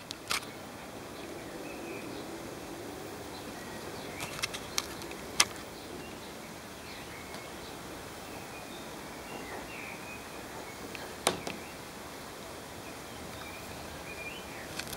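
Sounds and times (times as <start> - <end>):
outdoor background noise: 0.0 - 14.9.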